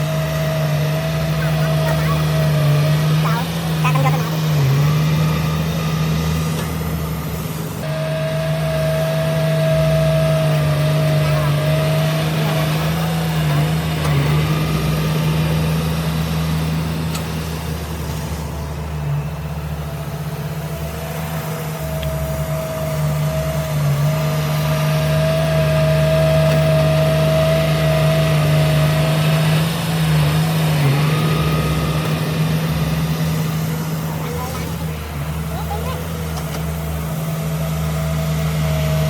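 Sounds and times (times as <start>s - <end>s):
heavy machinery diesel engine: 0.0s - 39.0s
thin steady whine: 0.0s - 39.0s.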